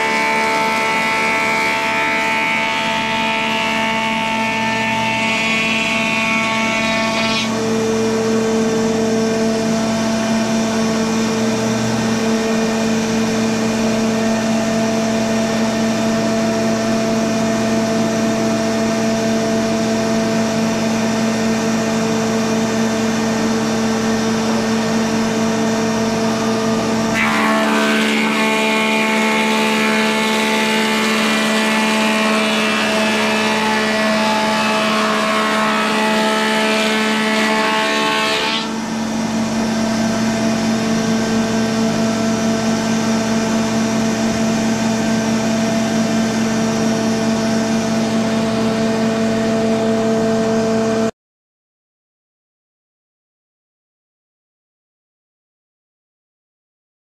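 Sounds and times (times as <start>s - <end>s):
planer cutting wooden board: 0.0s - 51.0s
thickness planer motor hum: 0.0s - 51.1s.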